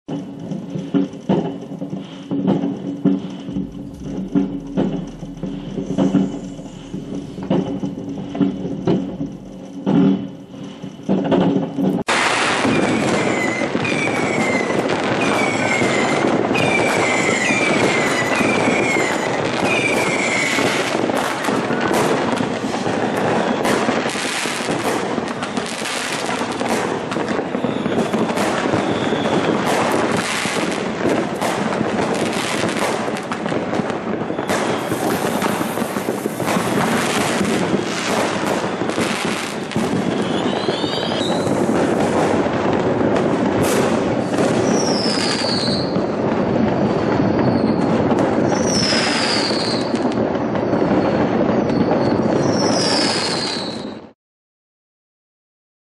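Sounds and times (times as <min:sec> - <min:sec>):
fireworks bangs and crackling: 0:00.0 - 0:54.2
rising firework whistle: 0:00.1 - 0:54.2
short firework whistles: 0:00.1 - 0:54.2.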